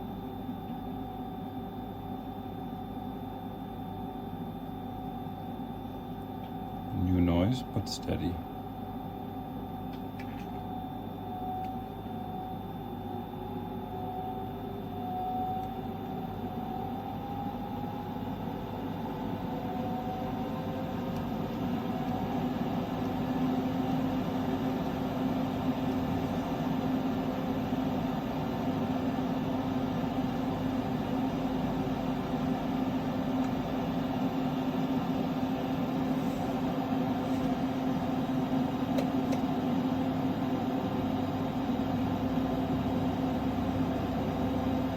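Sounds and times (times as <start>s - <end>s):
inverter humming and whining: 0.0s - 44.9s.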